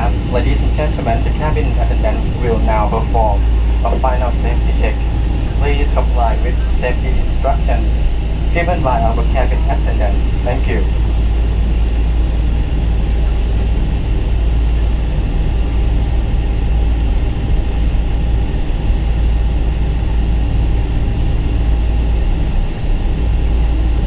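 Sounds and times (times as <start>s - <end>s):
jet engines idling rumble: 0.0s - 24.0s.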